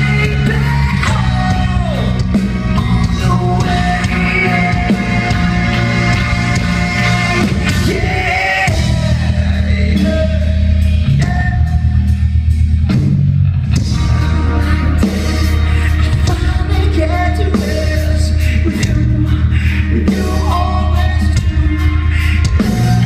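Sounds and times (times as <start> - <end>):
singer: 0.0 - 12.7, 14.0 - 23.0
bass: 0.0 - 23.0
drums: 0.0 - 23.0
electric guitars: 0.0 - 23.0.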